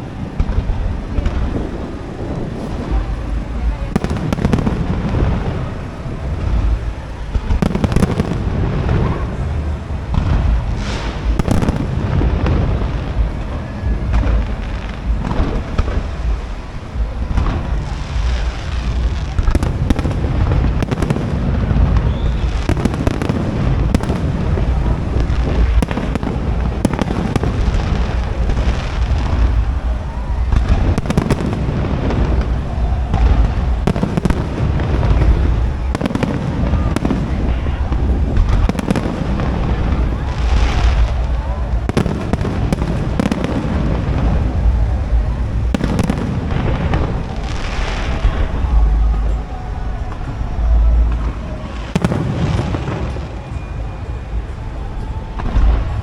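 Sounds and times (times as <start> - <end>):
fireworks booming: 0.0 - 56.0.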